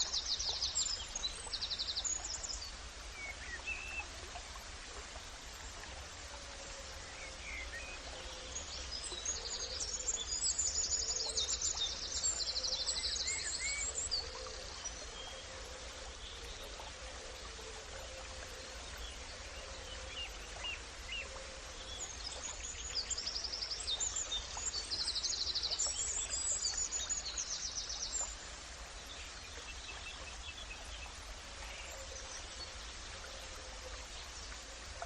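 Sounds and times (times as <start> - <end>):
outdoor ambience hiss: 0.0 - 35.0.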